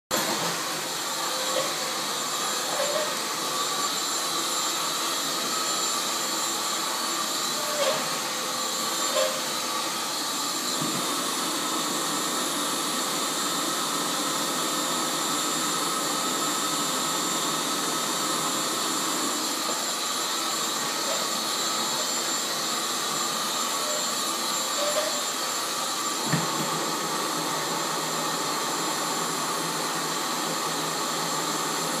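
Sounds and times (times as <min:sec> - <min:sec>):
vacuum cleaner running: 0:00.1 - 0:32.0.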